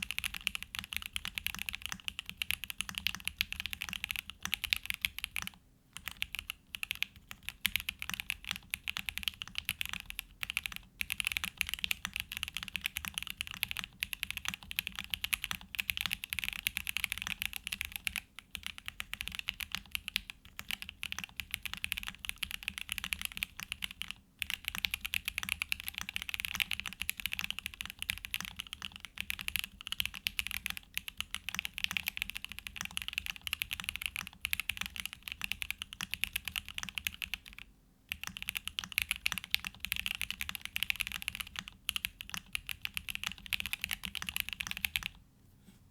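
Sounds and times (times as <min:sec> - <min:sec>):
fast typing on mechanical keyboard: 0:00.0 - 0:45.2.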